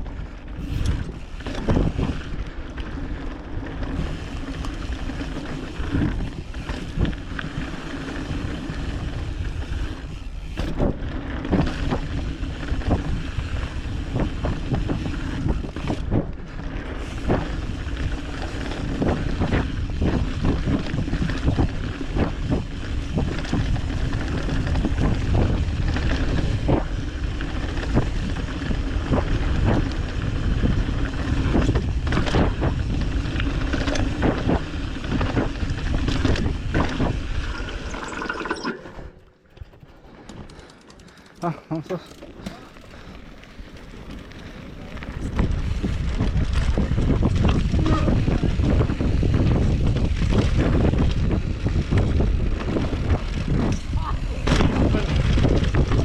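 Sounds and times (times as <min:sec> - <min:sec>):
wind buffeting microphone: 0:00.0 - 0:38.3, 0:42.7 - 0:56.0.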